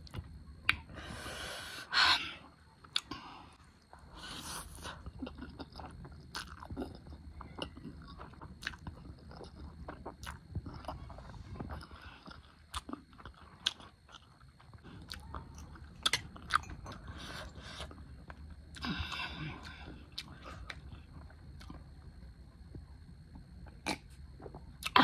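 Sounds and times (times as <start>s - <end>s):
close-up chewing noodles: 3.8s - 25.0s.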